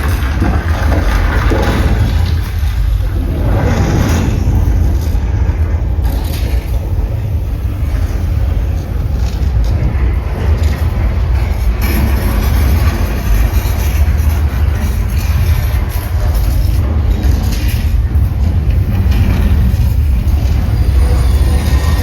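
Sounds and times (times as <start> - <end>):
deep rumble: 0.0 - 22.0
scraping and crashing noise: 0.0 - 22.0.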